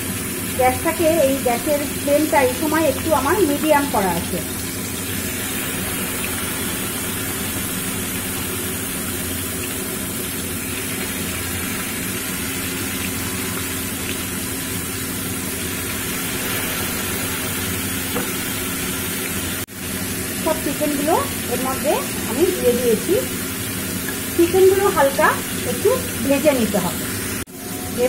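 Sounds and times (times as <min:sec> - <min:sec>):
chicken frying in hot oil: 0:00.0 - 0:28.0.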